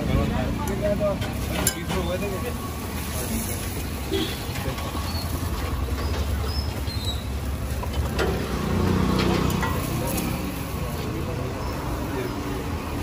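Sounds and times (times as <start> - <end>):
parathas cooking on iron griddle: 0.0 - 13.0.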